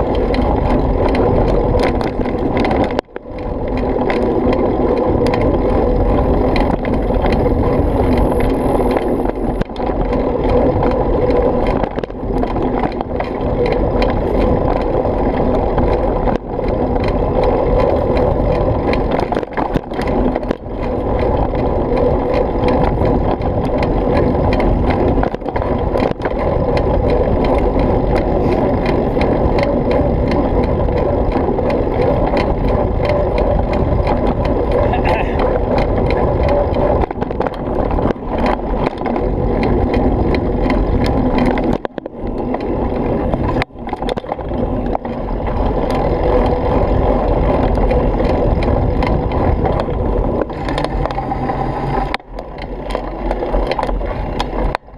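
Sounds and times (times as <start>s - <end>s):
vehicle riding rumble: 0.0s - 54.9s.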